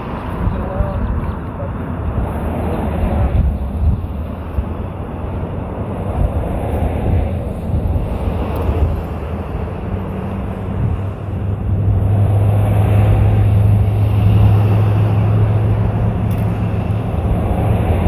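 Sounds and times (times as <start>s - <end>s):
engine humming: 0.0s - 18.0s
wind buffeting microphone: 0.0s - 18.0s.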